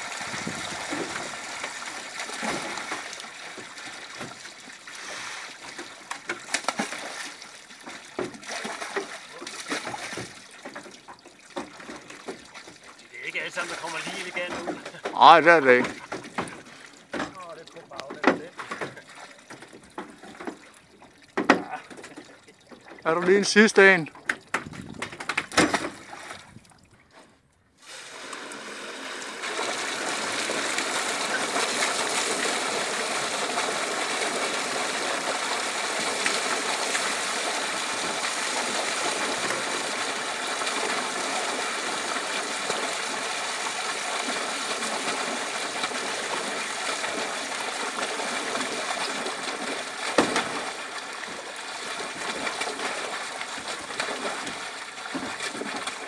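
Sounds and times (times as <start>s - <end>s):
water gushing from a pipe: 0.0s - 25.3s, 27.8s - 56.0s.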